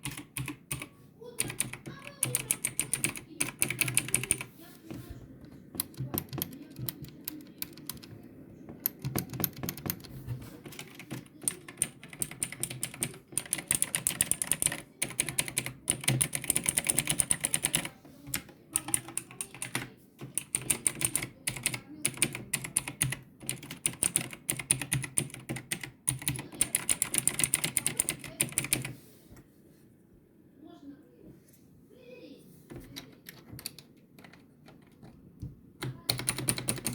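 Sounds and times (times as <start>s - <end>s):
mechanical keyboard typing: 0.0s - 4.5s, 5.4s - 29.0s, 32.7s - 35.2s, 35.8s - 36.9s.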